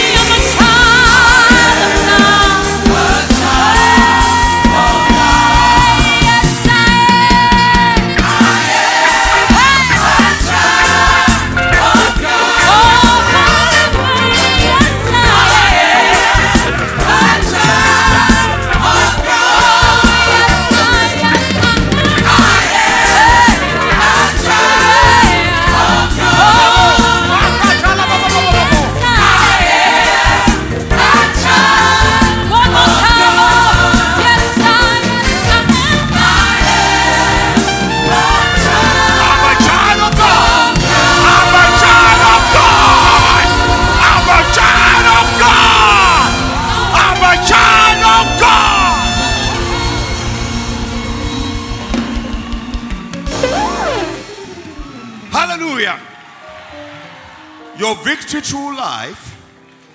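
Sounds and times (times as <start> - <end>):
bass: 0.0 - 54.7
choir singing: 0.0 - 55.3
drums: 0.0 - 57.2
band playing gospel music: 0.0 - 59.9.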